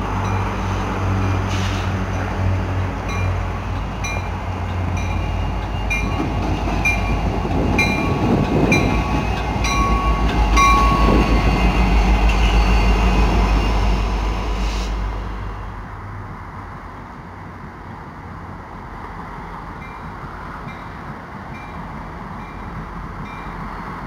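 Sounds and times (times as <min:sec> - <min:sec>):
locomotive engines rumbling: 0:00.0 - 0:24.0.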